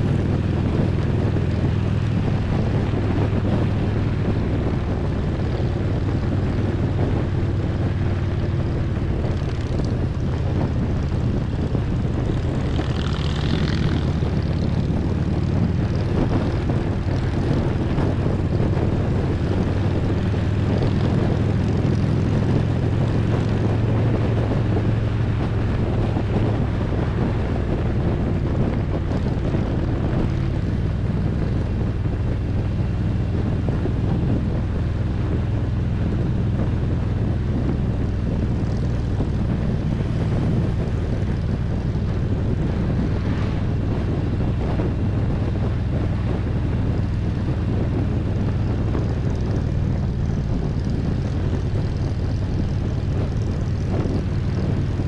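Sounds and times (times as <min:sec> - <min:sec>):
motorcycle engine running: 0:00.0 - 0:55.0
wind on microphone: 0:00.0 - 0:55.0.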